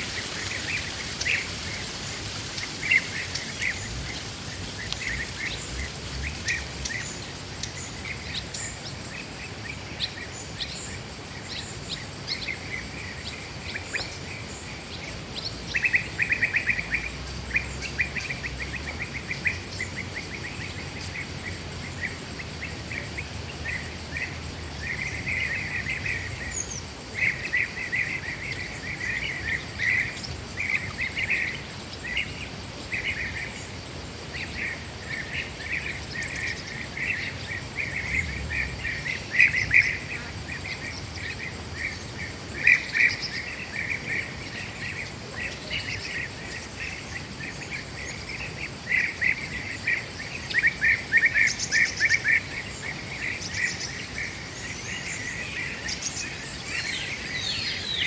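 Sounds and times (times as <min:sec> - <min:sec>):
birds chirping in rapid trills: 0:00.0 - 0:58.0
steady background hiss: 0:00.0 - 0:58.0.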